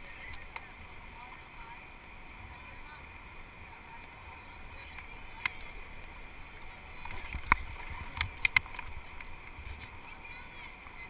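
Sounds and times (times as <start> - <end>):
muffled river water rushing: 0.0 - 11.0.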